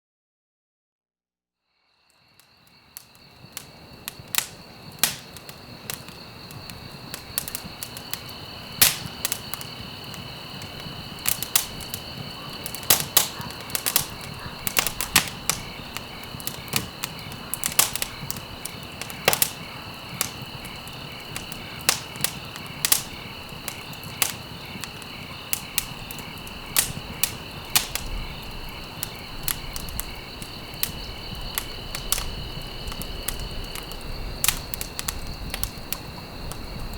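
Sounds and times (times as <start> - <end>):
crickets trilling: 1.7 - 36.9
wood fire crackling: 2.4 - 36.9.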